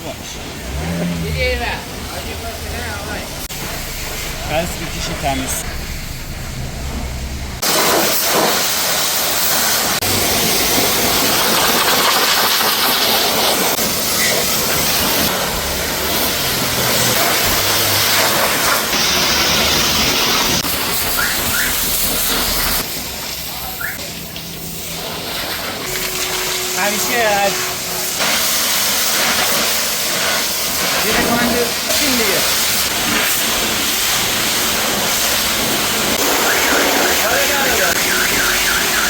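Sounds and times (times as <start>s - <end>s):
pressure washer spraying water: 0.0s - 39.0s.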